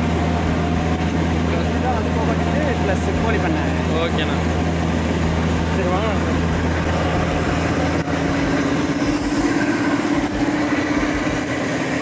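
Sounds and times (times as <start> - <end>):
mill machinery droning: 0.0 - 12.0.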